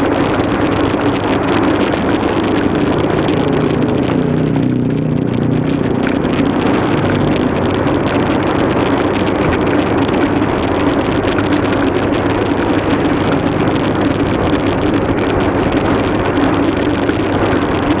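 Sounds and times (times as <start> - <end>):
dense rushing noise: 0.0 - 18.0
motorcycle engine running: 0.0 - 18.0.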